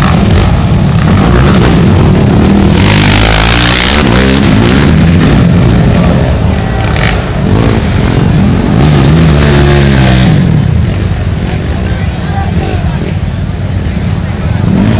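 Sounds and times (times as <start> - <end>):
quad engines revving: 0.0 - 13.2, 13.8 - 14.9.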